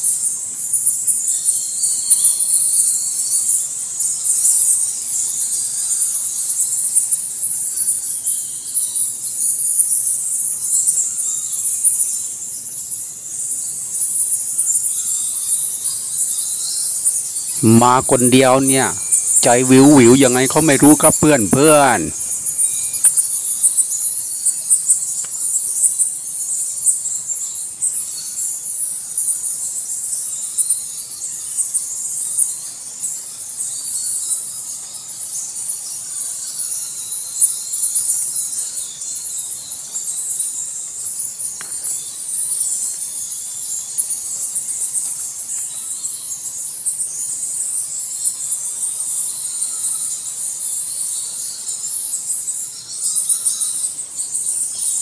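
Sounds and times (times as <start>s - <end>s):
bats chittering in a cave: 0.0s - 55.0s.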